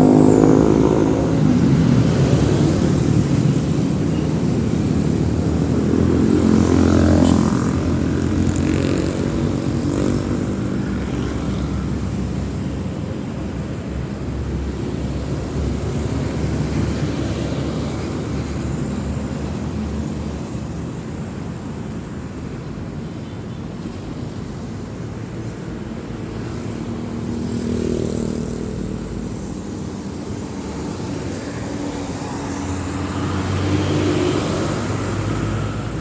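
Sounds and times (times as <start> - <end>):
cars driving past: 0.0 - 36.0
motorbikes passing: 0.0 - 36.0.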